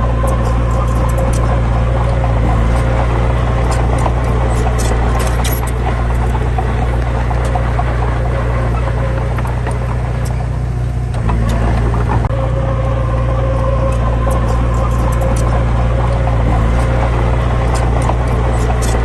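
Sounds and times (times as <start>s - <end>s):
sharp clicks and rattles: 0.0s - 12.4s, 13.6s - 19.0s
heavy diesel engine running: 0.0s - 19.0s.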